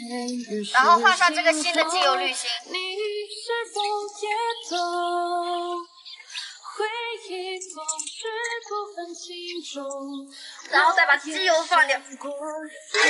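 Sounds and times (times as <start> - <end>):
woman singing: 0.6 - 13.0.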